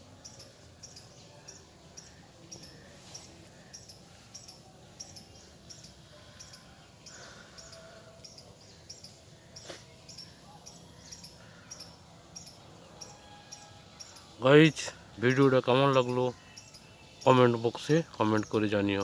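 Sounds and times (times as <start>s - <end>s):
insect chirping: 0.0s - 19.0s.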